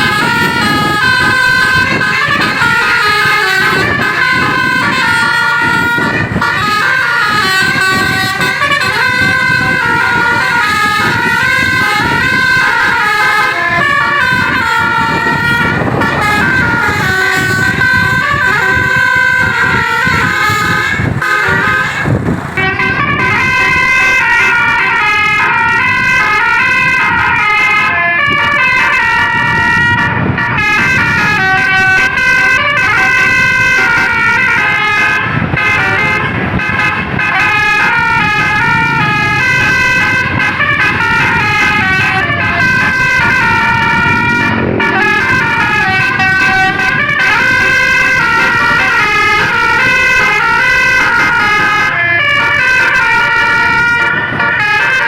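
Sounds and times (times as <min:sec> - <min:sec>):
bus musical horn playing a tune: 0:00.0 - 0:55.0.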